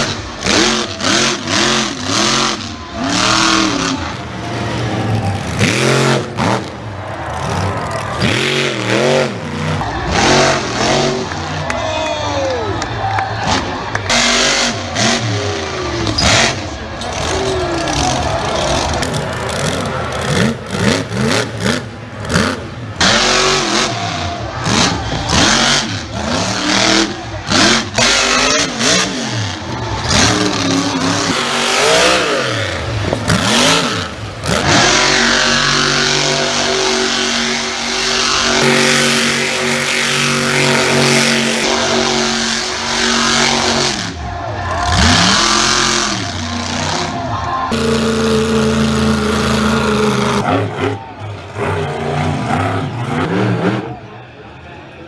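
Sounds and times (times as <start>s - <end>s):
truck engine revving hard: 0.0s - 54.8s.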